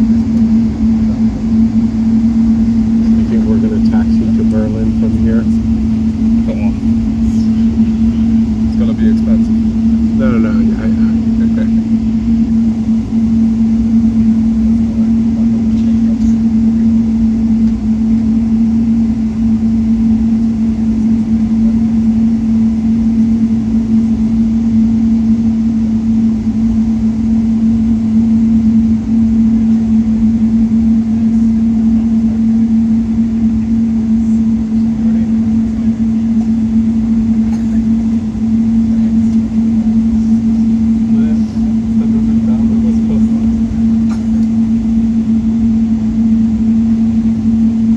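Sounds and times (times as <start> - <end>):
airplane cabin hum: 0.0 - 47.9
engine and rolling rumble: 0.0 - 47.9.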